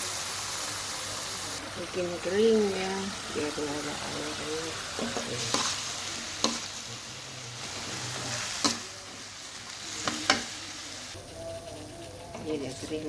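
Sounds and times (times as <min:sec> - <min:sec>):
vegetables sizzling in a pan: 0:00.0 - 0:11.2.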